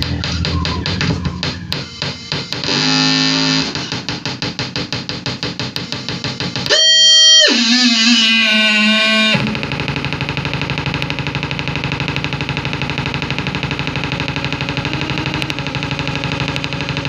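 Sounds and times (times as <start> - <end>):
fast stuttering distorted pulse: 0.0 - 17.0
loud held distorted tone: 0.0 - 17.0.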